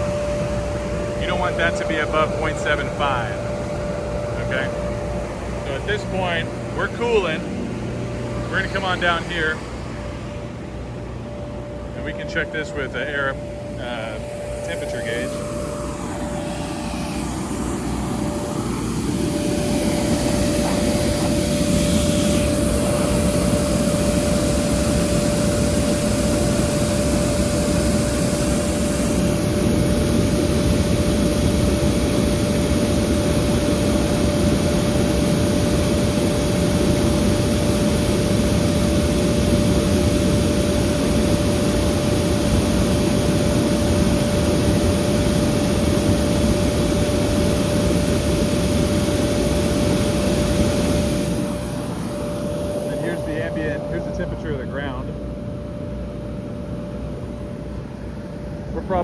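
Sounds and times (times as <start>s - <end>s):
air-conditioning unit running: 0.0s - 59.0s
constant machine whine: 0.0s - 59.0s.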